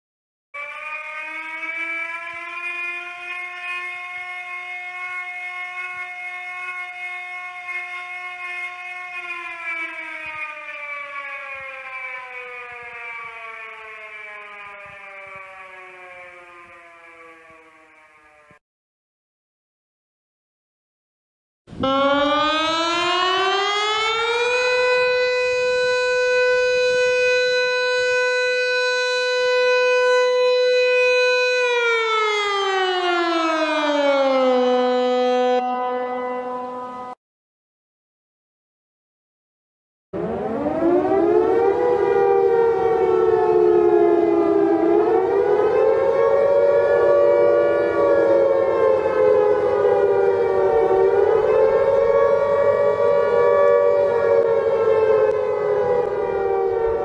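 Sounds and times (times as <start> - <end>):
warning siren winding down: 0.6 - 18.6, 21.7 - 37.2, 40.2 - 57.0.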